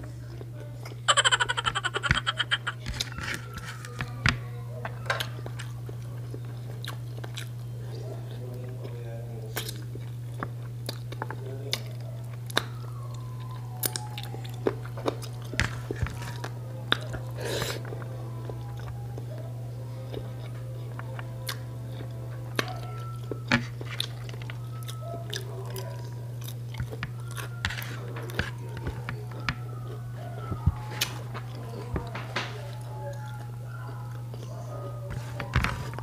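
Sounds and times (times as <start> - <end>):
steady low hum: 0.0 - 36.0
person chewing food: 5.1 - 36.0.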